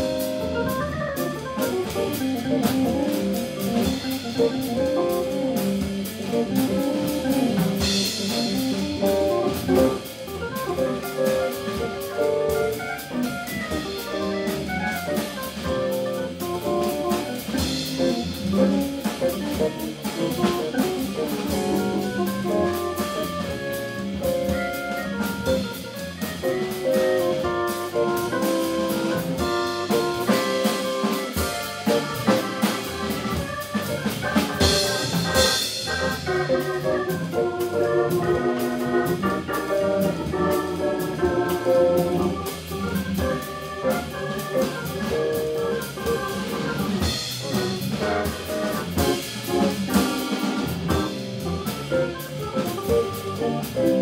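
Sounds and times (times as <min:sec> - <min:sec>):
jazz organ trio playing: 0:00.0 - 0:54.0.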